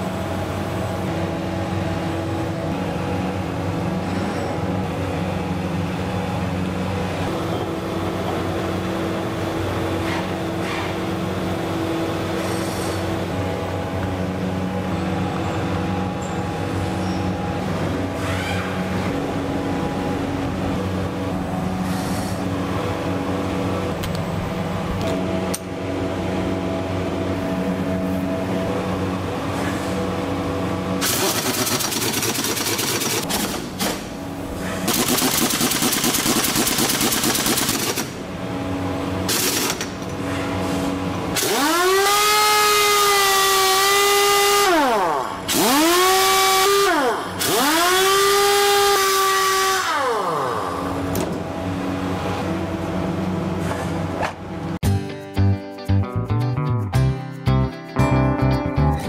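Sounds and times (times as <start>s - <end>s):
air motor whine: 0.0s - 54.8s
steady hum with tones: 0.0s - 59.0s.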